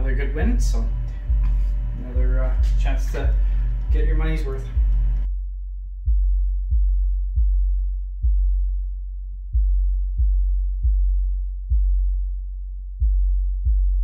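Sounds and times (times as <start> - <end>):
electronic music with deep bass hits: 0.0 - 14.0.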